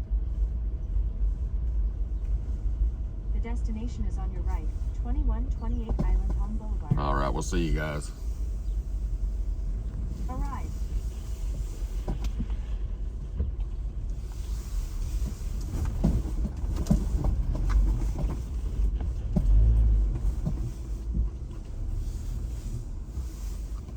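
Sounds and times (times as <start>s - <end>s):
car engine and tyres rumble: 0.0s - 23.9s.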